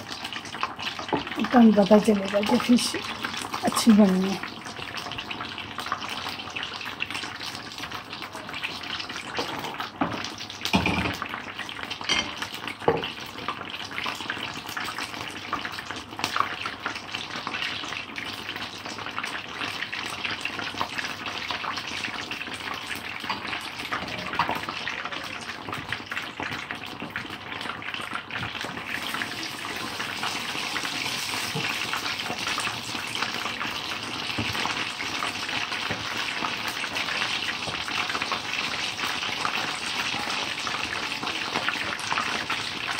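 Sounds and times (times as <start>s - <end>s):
fish deep-frying in oil: 0.0s - 42.9s.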